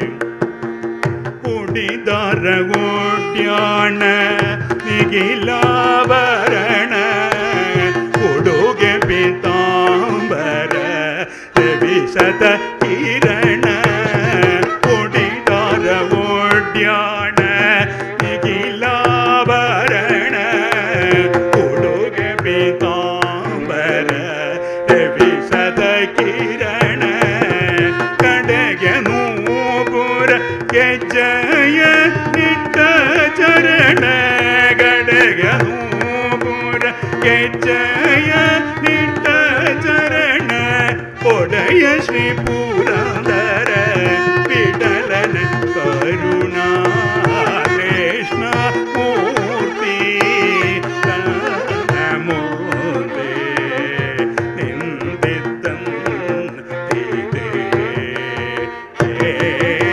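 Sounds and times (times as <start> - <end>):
man singing: 0.0 - 59.9
violin: 0.0 - 59.9.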